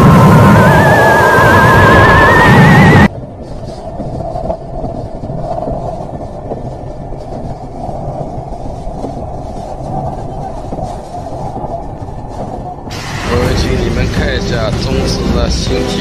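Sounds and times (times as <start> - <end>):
wind and rain rumbling: 0.0 - 16.0
wind buffeting microphone: 0.0 - 16.0.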